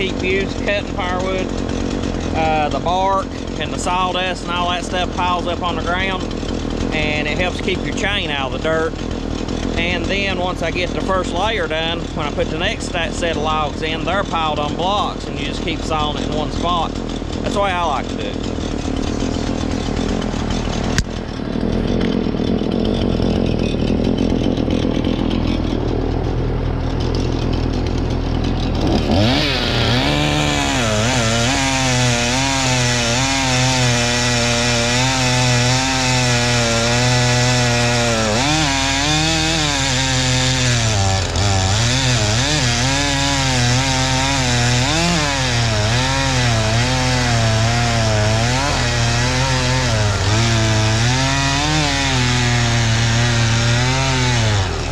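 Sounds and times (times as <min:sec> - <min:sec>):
chainsaw cutting logs: 0:00.0 - 0:54.9.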